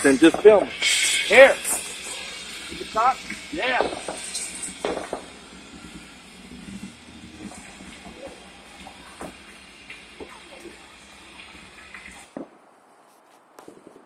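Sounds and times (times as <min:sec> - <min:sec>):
fire popping: 0:00.0 - 0:12.7
bonfire hissing: 0:00.0 - 0:13.9.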